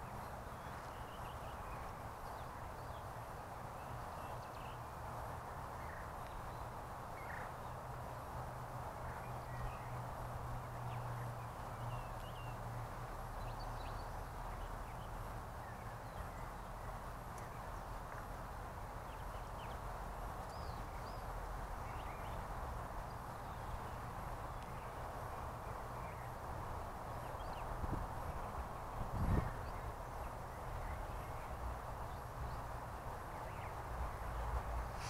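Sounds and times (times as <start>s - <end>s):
background hiss: 0.0s - 35.0s.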